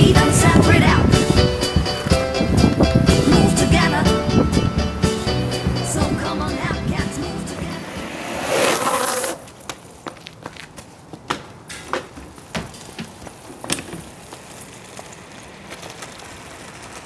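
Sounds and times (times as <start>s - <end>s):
footsteps: 0.0s - 17.0s
skateboard wheels sliding on asphalt: 0.0s - 17.0s.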